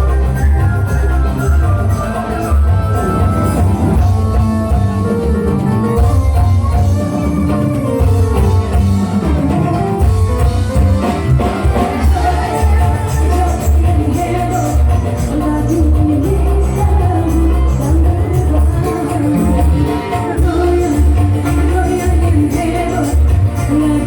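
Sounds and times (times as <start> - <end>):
drums: 0.0 - 24.0
guitar: 0.0 - 24.0
live band music: 0.0 - 24.0.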